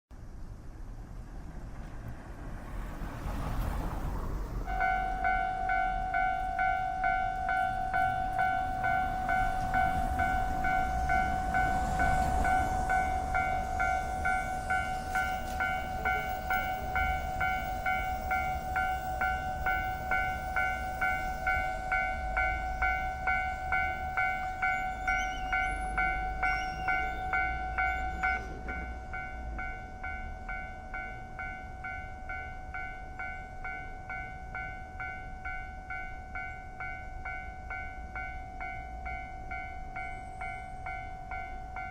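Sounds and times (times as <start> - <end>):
train rumbling past: 0.2 - 41.9
railroad crossing bell ringing: 4.6 - 41.9.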